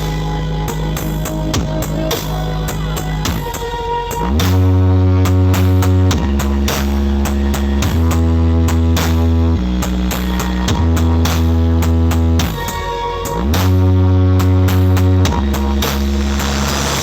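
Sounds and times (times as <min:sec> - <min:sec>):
bass-heavy electronic music: 0:00.0 - 0:17.0.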